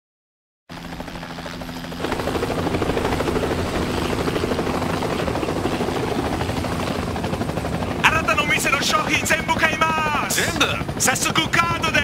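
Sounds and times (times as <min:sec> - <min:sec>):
helicopter rotor beating: 0:00.7 - 0:12.0.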